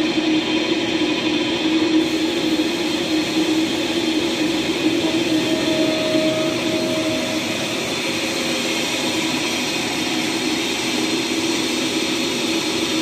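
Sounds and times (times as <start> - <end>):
lathe running: 1.4 - 13.0
thin whine: 1.9 - 13.0.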